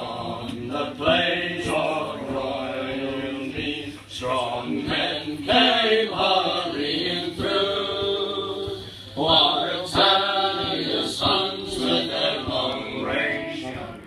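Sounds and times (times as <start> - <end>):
group singing unaccompanied: 0.0 - 14.0.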